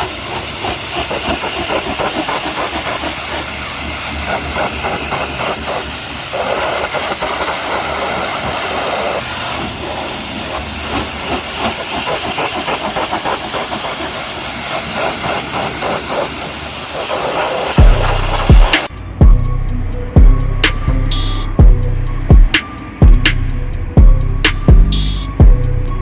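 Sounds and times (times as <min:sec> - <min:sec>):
pressure washer spraying water: 0:00.0 - 0:26.0.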